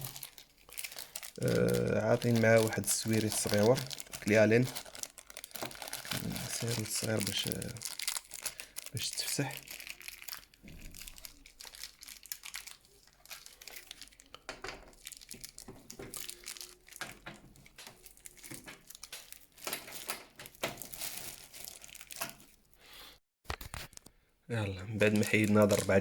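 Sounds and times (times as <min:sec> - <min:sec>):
plastic crinkling: 0:00.0 - 0:22.7, 0:24.9 - 0:26.0.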